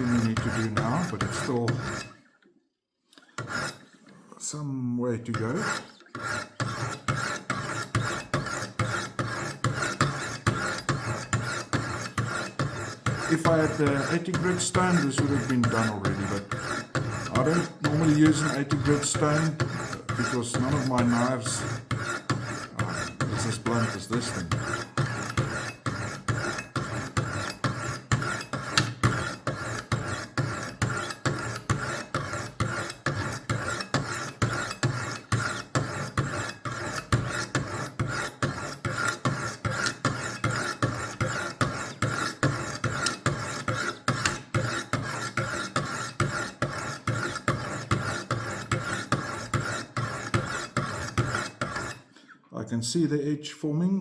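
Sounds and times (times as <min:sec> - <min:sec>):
sharpening stones scraping knife edge: 0:00.0 - 0:02.2, 0:03.4 - 0:03.8, 0:05.6 - 0:52.1.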